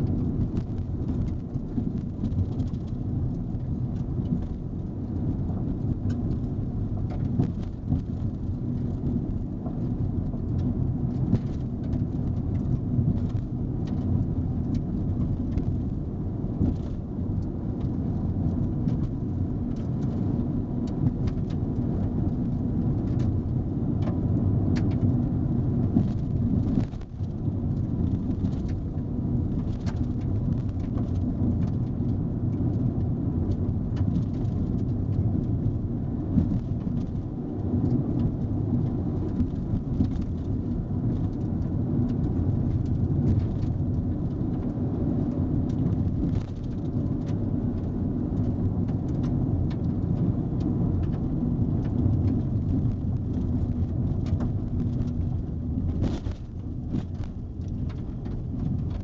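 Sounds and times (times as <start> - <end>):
tyres rumbling on gravel: 0.1 - 59.0.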